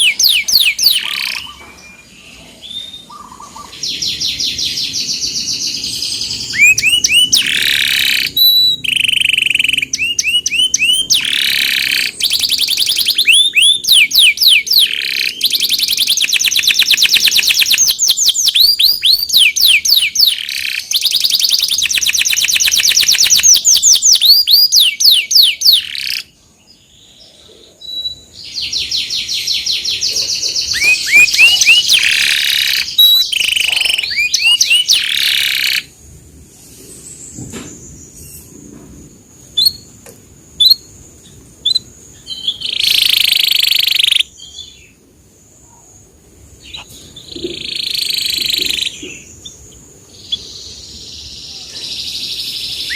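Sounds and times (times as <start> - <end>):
canary singing rolling trills: 0.0 - 52.9.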